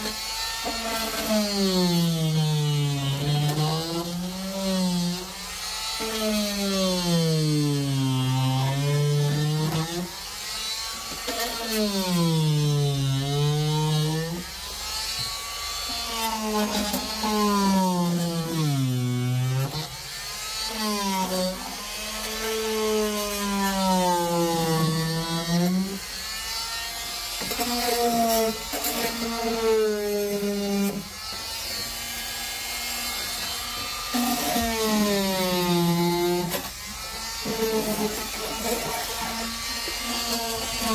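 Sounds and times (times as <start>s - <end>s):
oscillating multi-tool buzzing: 0.0s - 40.9s.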